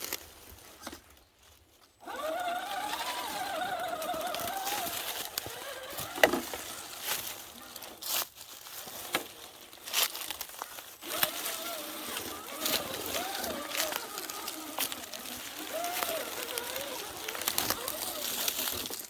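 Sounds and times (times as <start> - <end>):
toy car electric motor whining: 2.0 - 8.2, 9.0 - 19.0.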